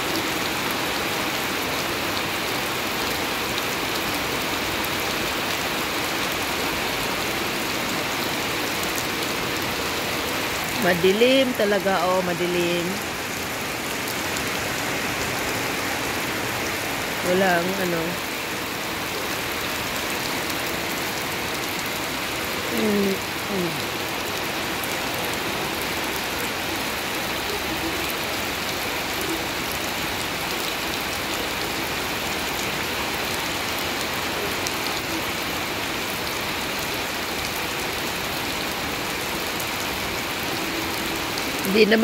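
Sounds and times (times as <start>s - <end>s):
rain falling on grass: 0.0s - 42.0s.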